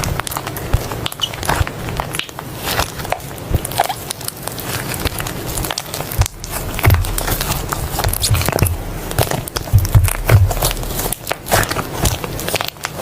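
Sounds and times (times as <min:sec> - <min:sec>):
slime squishing: 0:00.0 - 0:13.0.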